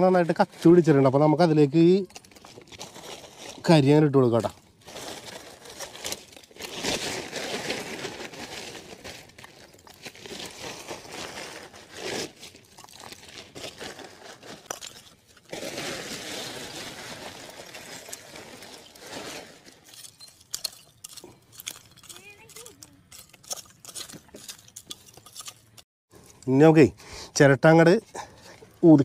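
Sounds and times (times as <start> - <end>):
charcoal crunching and clattering: 0.6 - 26.6
plastic sack crinkling: 1.7 - 25.8.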